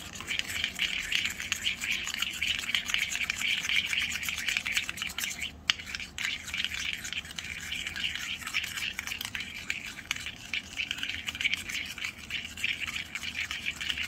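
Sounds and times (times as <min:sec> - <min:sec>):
spoon scraping metal bowl: 0:00.0 - 0:14.0.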